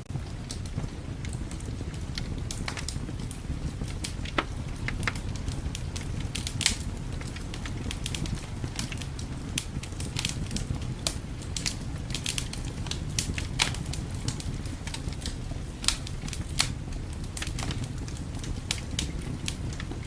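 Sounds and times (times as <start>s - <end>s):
low rumble of wind: 0.0s - 20.0s
wood fire crackling and popping: 0.0s - 20.0s.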